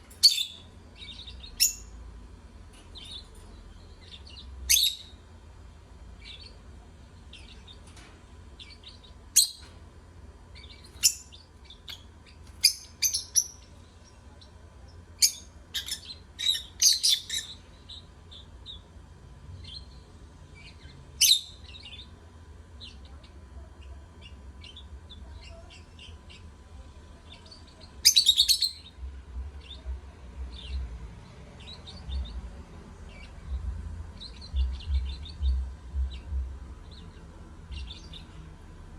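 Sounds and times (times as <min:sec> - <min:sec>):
lovebirds twittering: 0:00.0 - 0:02.0, 0:02.7 - 0:05.3, 0:06.1 - 0:09.8, 0:10.5 - 0:18.9, 0:19.5 - 0:38.6
lovebirds calling: 0:00.0 - 0:05.3, 0:06.1 - 0:38.9.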